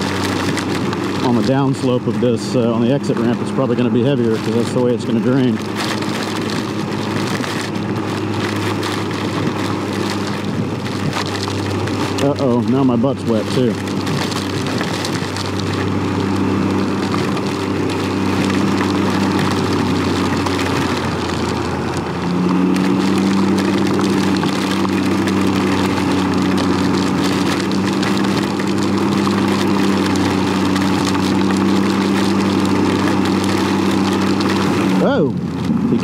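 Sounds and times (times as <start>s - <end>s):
heavy rain and water spray: 0.0s - 36.0s
motorcycle engine running: 0.0s - 36.0s.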